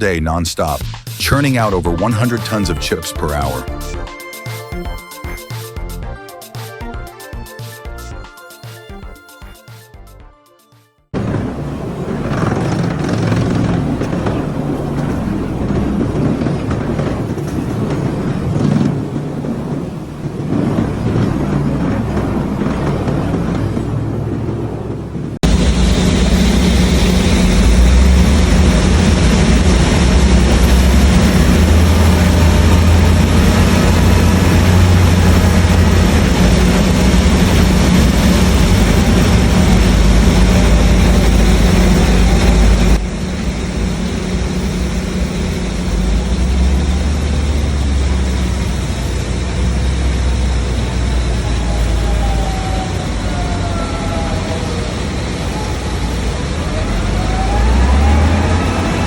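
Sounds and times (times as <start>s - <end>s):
wood chipper rumbling: 11.2s - 59.0s.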